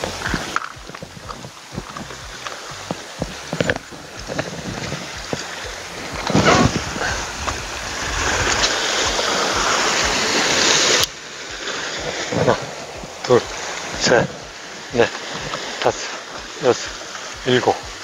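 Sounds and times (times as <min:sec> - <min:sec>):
waves washing on rocky shore: 0:00.0 - 0:18.0.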